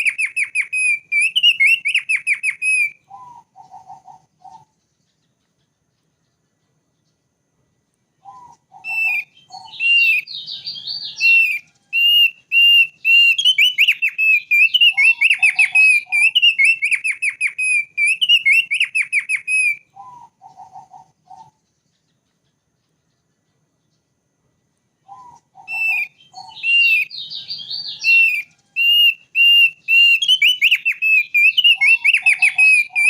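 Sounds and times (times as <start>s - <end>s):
bird singing with trills: 0.0s - 7.4s, 8.1s - 24.3s, 25.0s - 33.0s.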